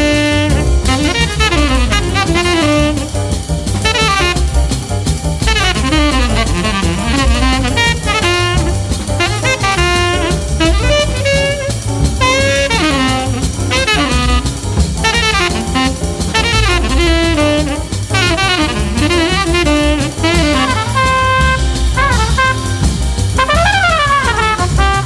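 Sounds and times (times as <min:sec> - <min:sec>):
bass: 0:00.0 - 0:25.0
drum kit: 0:00.0 - 0:25.0
tenor saxophone solo: 0:00.0 - 0:25.0.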